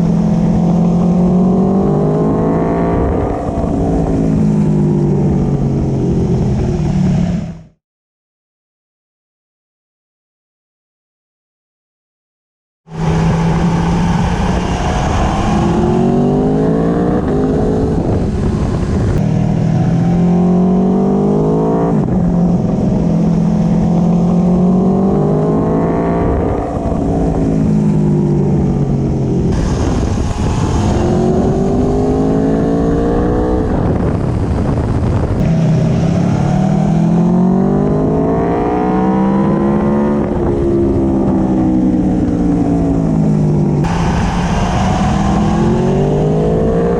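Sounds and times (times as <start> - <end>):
motorcycle engine revving: 0.0 - 7.8, 12.9 - 46.9.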